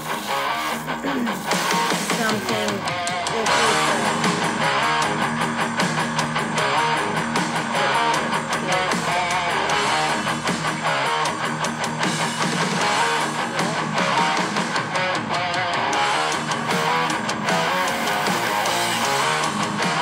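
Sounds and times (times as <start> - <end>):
guitar-led song: 0.0 - 20.0.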